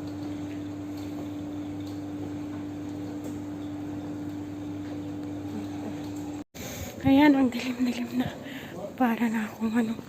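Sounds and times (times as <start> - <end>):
washing machines and dryers humming: 0.0 - 10.0.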